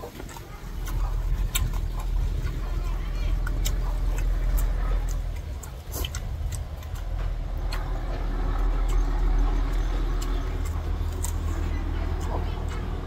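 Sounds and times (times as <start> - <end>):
crunchy eating: 0.0 - 13.0
steady low rumble: 0.0 - 13.0.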